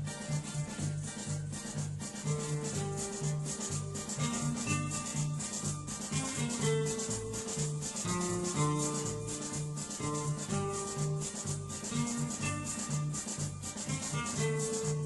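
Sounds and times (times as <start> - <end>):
instrumental music with shaker rhythm: 0.0 - 15.0.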